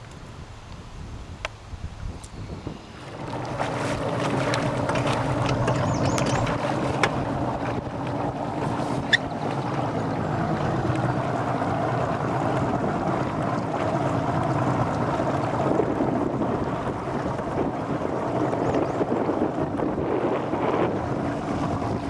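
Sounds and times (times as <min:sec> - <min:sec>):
outboard motor running: 0:00.0 - 0:22.0
wind and water noise: 0:00.0 - 0:22.0.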